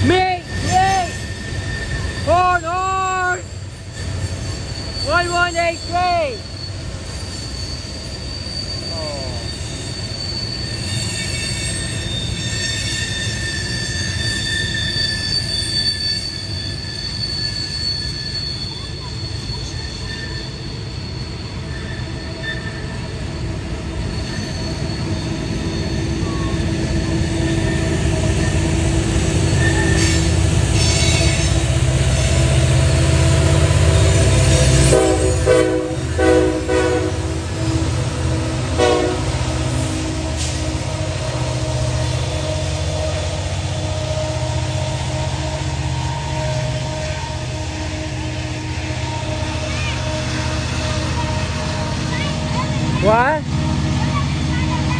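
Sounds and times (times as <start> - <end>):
diesel locomotive rumble: 0.0 - 54.9
train wheels squealing on rail: 0.0 - 54.9.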